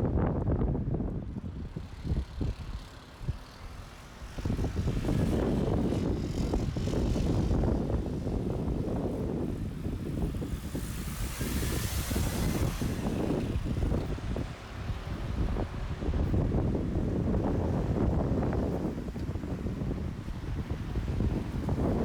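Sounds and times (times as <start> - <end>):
wind buffeting microphone: 0.0 - 22.0
passing vehicle engine rumble: 0.8 - 22.0.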